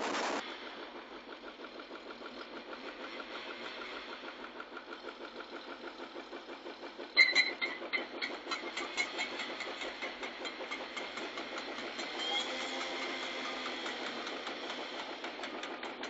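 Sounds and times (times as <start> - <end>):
machine engine running: 0.0 - 16.0
clatter of sharp ticks: 1.6 - 16.0.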